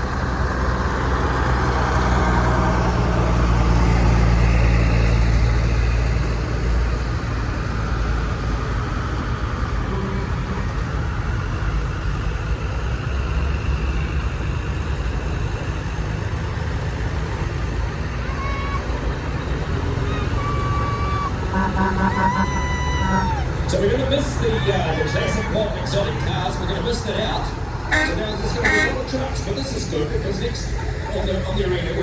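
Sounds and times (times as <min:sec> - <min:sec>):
truck engine passing: 0:00.0 - 0:32.0.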